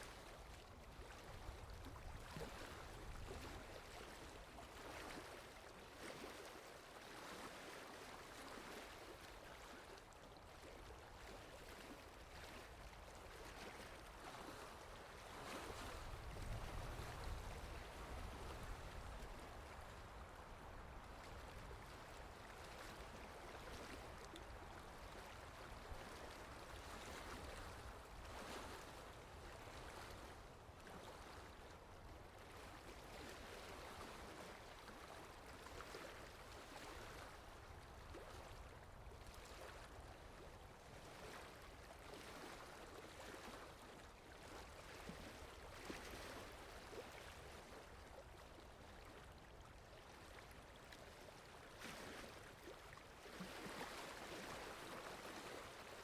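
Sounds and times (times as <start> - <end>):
faint water lapping: 0.0 - 56.0.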